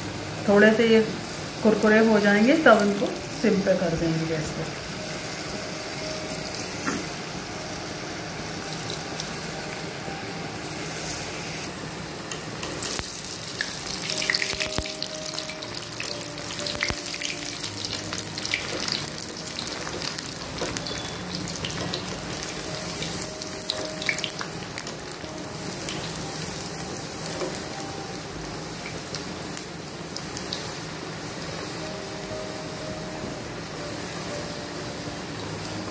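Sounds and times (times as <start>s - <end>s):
fries sizzling in hot oil: 0.0s - 35.9s.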